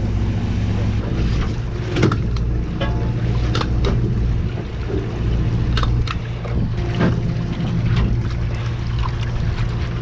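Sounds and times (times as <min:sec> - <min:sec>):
boat engine hum: 0:00.0 - 0:10.0.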